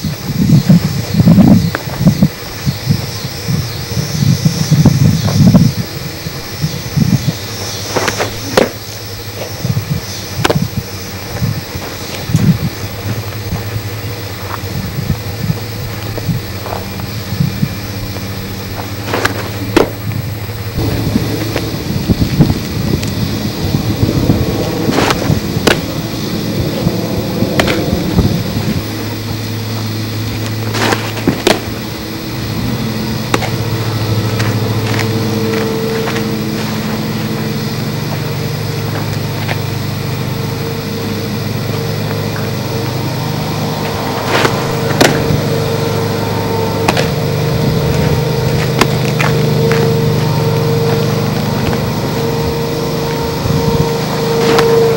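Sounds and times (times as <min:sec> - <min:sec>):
low mechanical hum: 0:00.0 - 0:54.9
low rumble: 0:00.1 - 0:54.9.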